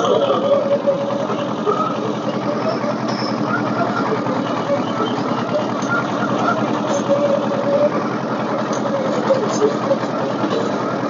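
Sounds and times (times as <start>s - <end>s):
machine engine running at low revs: 0.0s - 11.0s.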